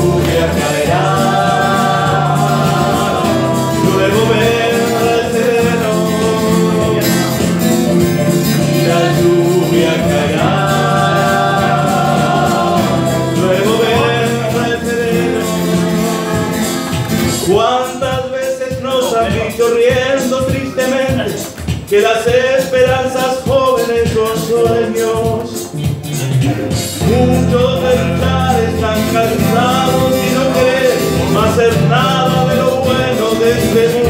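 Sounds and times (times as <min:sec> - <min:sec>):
acoustic guitar: 0:00.0 - 0:34.0
keyboard accompaniment: 0:00.0 - 0:34.0.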